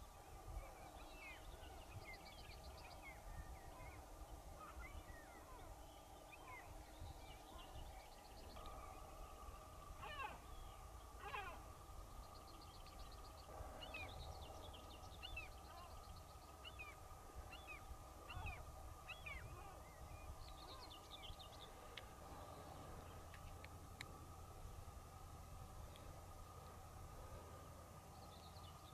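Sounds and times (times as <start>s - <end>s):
birds chirping and trilling: 0.0s - 28.9s
faint steady hum: 0.0s - 28.9s.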